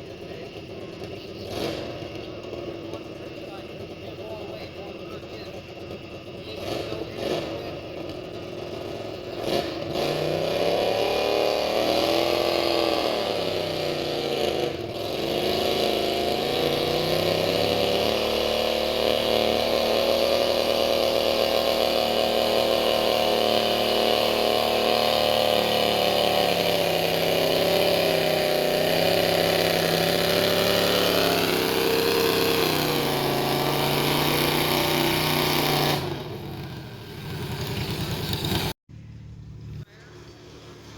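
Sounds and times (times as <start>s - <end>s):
tractor engine running hard: 0.0s - 38.8s.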